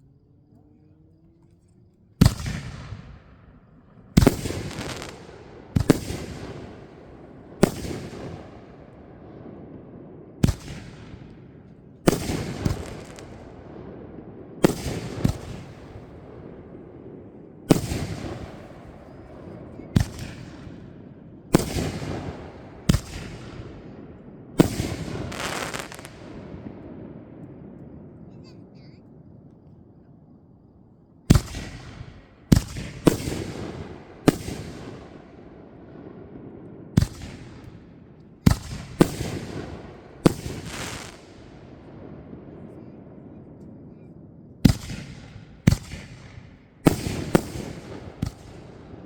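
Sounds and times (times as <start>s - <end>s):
fireworks bangs: 2.2s - 28.6s, 31.2s - 49.0s.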